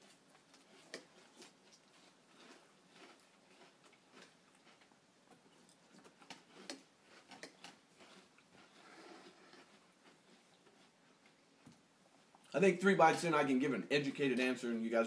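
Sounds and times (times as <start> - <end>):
crunching and chewing cereal: 0.0 - 12.6.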